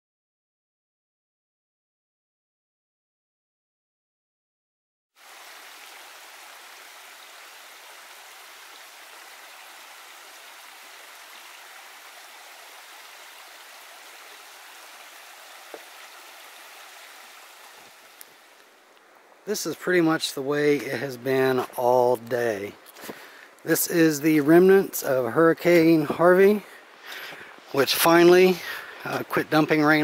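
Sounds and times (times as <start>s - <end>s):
creek water rushing over rocks: 5.2s - 30.0s.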